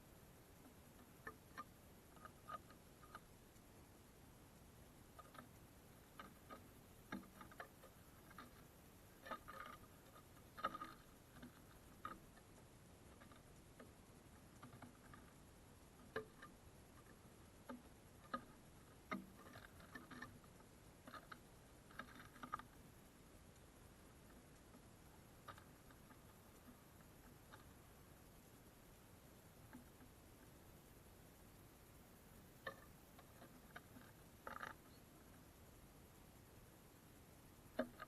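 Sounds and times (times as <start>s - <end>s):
birds pecking at wooden feeder: 0.0s - 38.0s.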